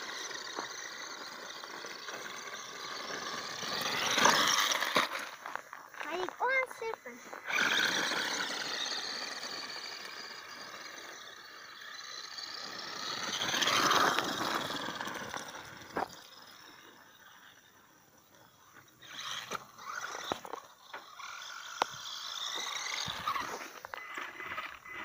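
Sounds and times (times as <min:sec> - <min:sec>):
rc car motor whining: 0:00.0 - 0:25.0.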